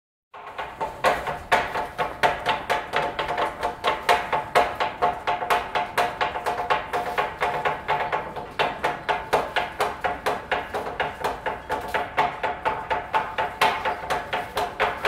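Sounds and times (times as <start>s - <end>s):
knives chopping candy on wooden boards: 0.4s - 15.0s.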